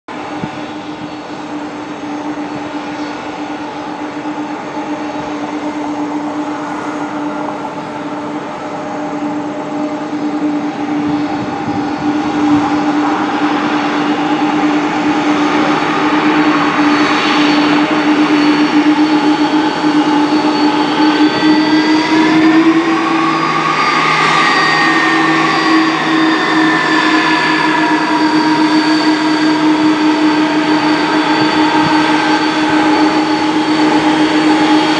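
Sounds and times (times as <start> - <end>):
jet engines whining: 0.1 - 34.9.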